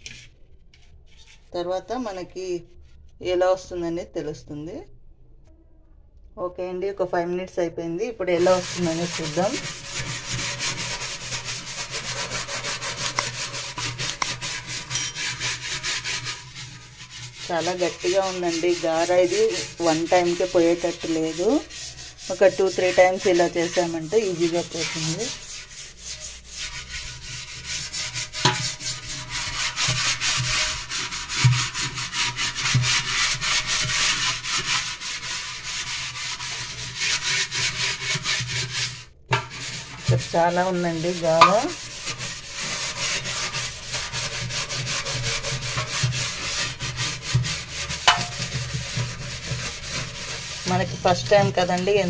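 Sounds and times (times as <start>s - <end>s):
scrubbing steel sink: 8.2s - 52.0s.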